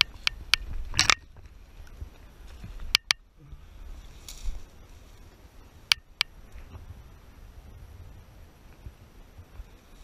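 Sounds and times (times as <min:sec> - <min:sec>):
leaves rustling: 0:00.0 - 0:10.0.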